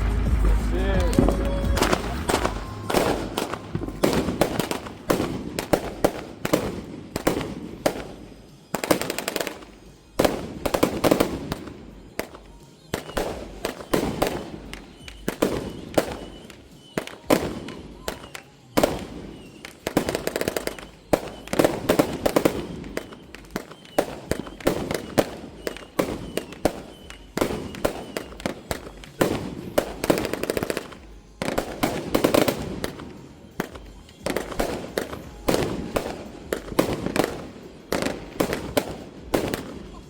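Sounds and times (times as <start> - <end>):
firework bangs and crackles: 0.0 - 40.0.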